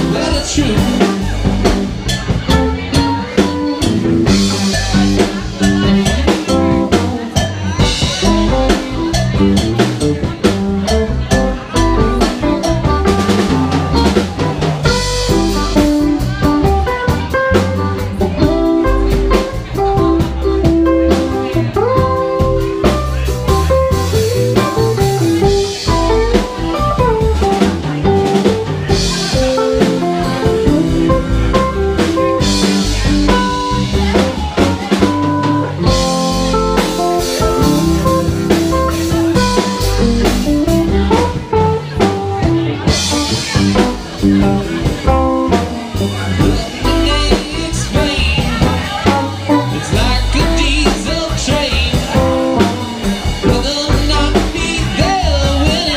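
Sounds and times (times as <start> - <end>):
bass guitar: 0.0 - 55.9
drum kit: 0.0 - 55.9
electric guitars bending notes: 0.0 - 55.9.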